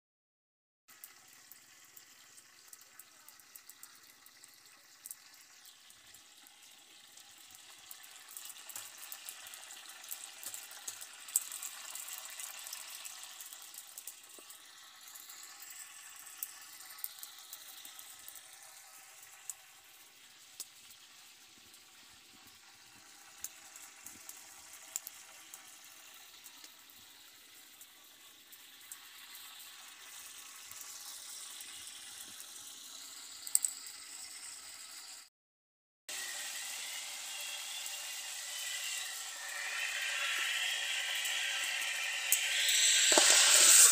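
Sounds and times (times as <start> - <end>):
wood fire hissing and crackling: 0.9 - 35.3, 36.1 - 43.9.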